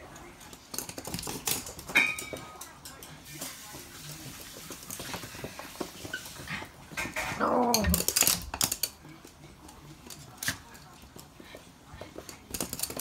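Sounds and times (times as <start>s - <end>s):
dog claws on wooden floor: 0.3s - 3.7s, 4.3s - 13.0s.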